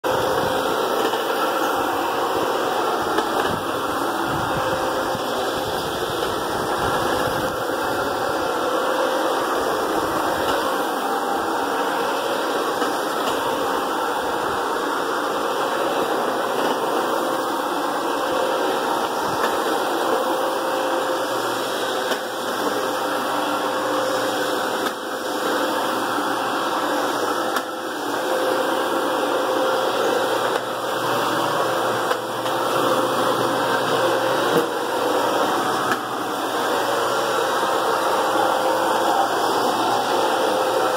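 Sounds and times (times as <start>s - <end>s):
brushes scrubbing carpet: 0.1s - 40.9s
electric motor humming: 0.1s - 40.9s.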